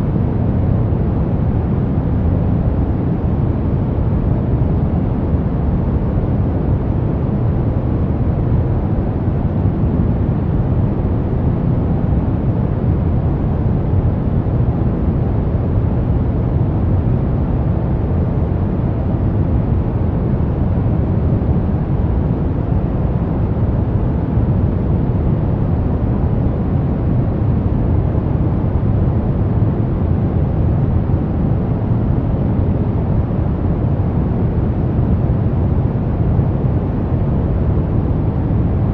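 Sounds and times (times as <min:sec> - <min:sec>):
brown noise: 0:00.0 - 0:38.9.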